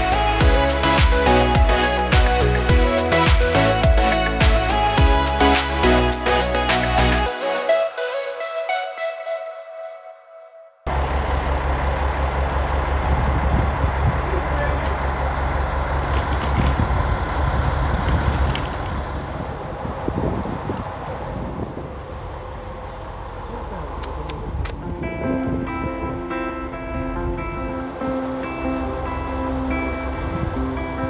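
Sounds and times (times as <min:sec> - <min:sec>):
diesel railcar engine idling: 0:00.0 - 0:07.3, 0:10.9 - 0:25.6, 0:26.2 - 0:31.0.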